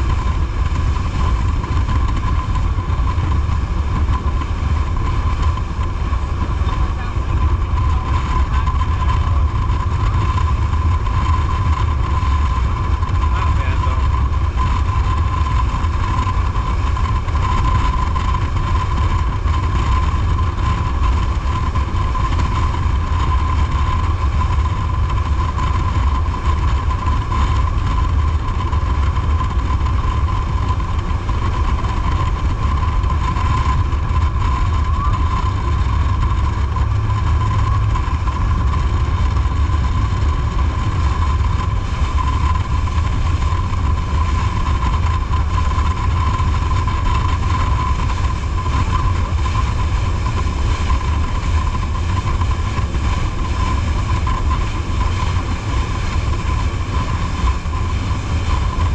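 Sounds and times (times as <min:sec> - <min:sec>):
boat engine rumble: 0:00.0 - 0:58.9
water jet whine: 0:00.0 - 0:58.9.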